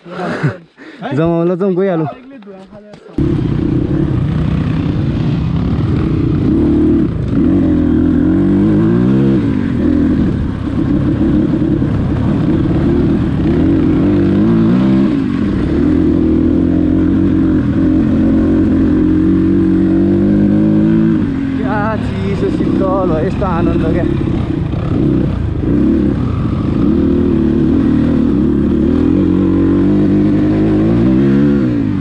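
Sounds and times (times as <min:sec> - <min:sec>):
dirt bike engine revving: 0:03.2 - 0:32.0.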